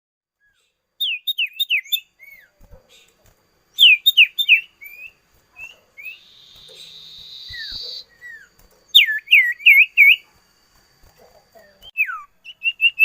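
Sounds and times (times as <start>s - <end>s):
songbird singing: 0.4s - 13.0s.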